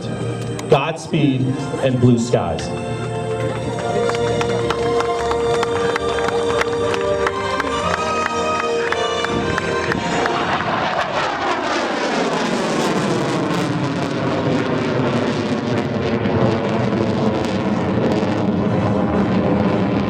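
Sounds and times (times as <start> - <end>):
jet engines roaring: 0.0 - 20.0
jet whooshing past: 0.0 - 20.0.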